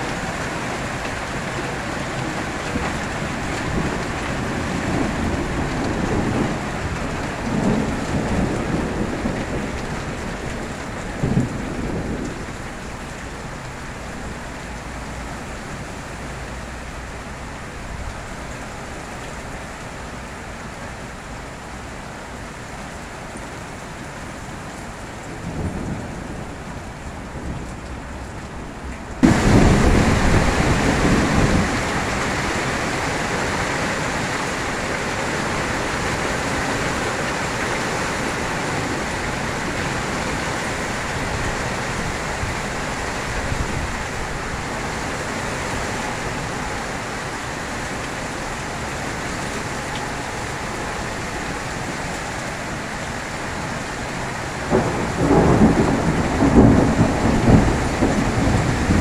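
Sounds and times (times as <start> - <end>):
hail and rain pelting down: 0.0 - 59.0.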